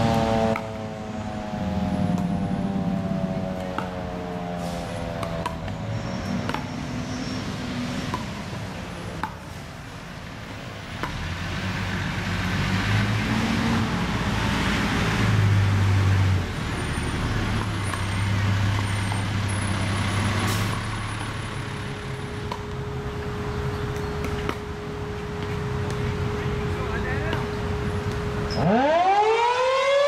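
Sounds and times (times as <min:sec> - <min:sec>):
heavy vehicle engine rumble: 0:00.0 - 0:28.7
road traffic passing: 0:00.0 - 0:30.0.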